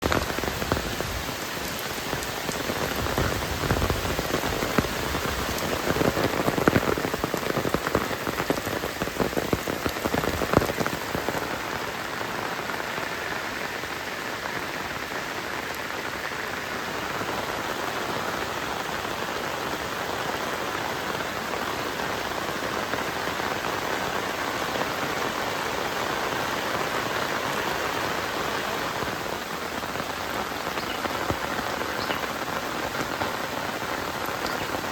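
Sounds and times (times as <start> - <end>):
close raindrops splashing: 0.0 - 34.9
heavy rain falling: 0.0 - 34.9.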